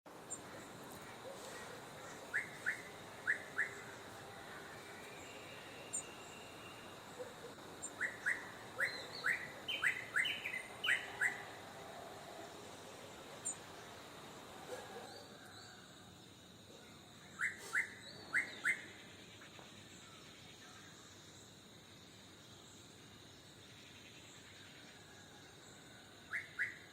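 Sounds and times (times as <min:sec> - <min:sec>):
songbird chirping: 0:00.1 - 0:26.9.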